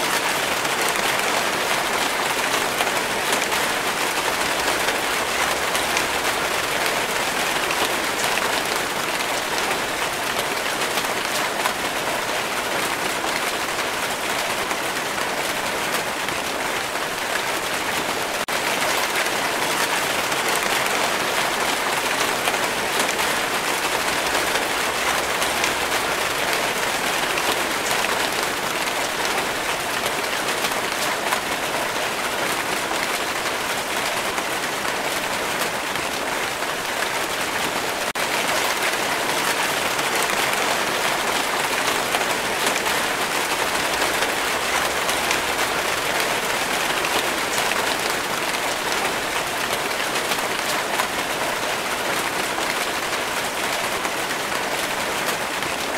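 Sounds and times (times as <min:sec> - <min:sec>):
rain falling steadily: 0:00.0 - 0:55.9.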